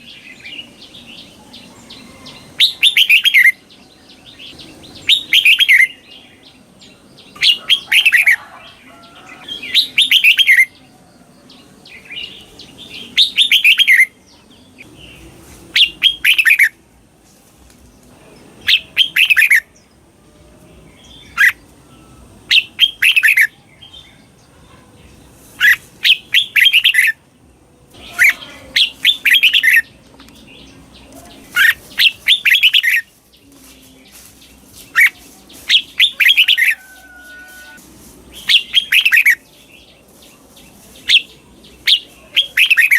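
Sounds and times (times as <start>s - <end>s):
bulbul singing warbled phrases: 0.0s - 16.8s, 17.9s - 42.9s.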